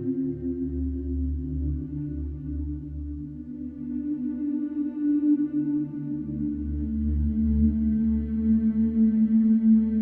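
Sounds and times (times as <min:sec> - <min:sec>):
ambient music: 0:00.0 - 0:10.0.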